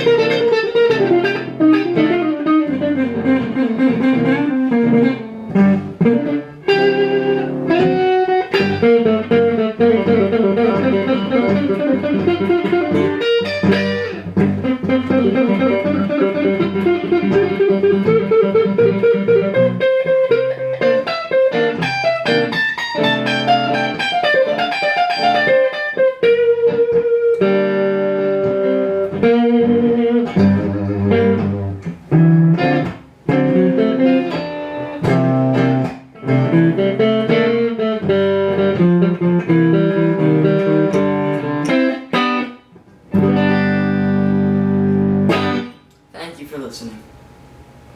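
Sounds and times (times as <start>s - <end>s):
electric guitar lead lines: 0.0s - 46.1s.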